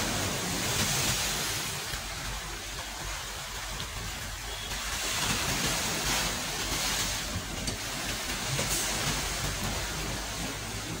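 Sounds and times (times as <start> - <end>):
moving train rumble: 0.0 - 11.0
wind: 0.0 - 11.0.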